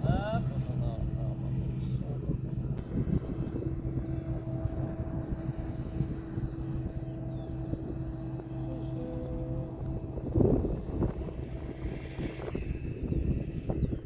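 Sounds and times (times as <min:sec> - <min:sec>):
combine harvester engine droning: 0:00.0 - 0:14.0.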